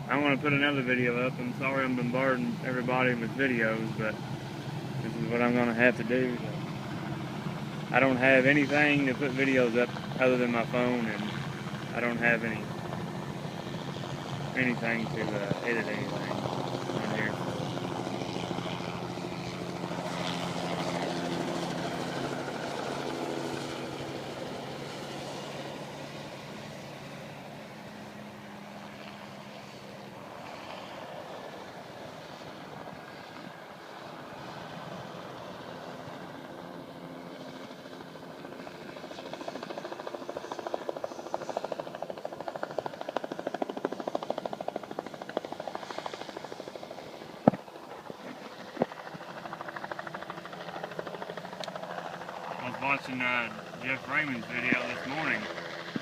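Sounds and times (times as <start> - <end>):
helicopter engine and rotor: 0.0 - 56.0.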